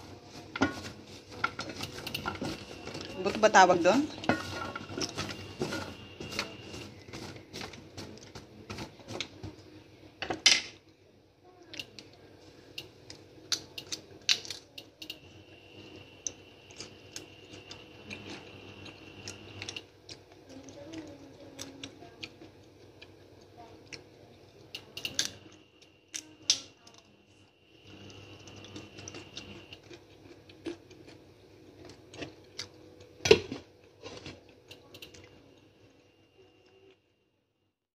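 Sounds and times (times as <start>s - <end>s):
faint steady hum: 0.0s - 37.8s.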